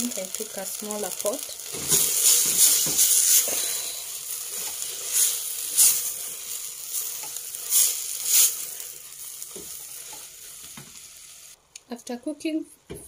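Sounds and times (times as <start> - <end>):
spinach sizzling in a pot: 0.0 - 11.6.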